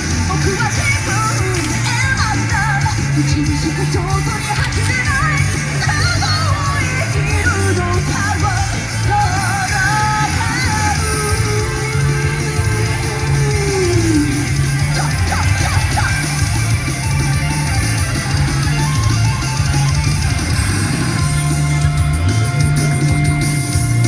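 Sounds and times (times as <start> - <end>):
drums: 0.0 - 24.0
electric guitar: 0.0 - 24.0
live rock band playing: 0.0 - 24.0.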